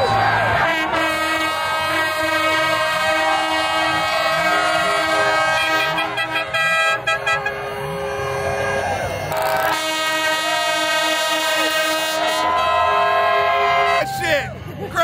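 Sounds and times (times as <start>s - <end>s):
crowd cheering and shouting: 0.0s - 6.6s, 7.8s - 9.8s, 11.5s - 15.0s
air horns blowing: 0.5s - 14.3s.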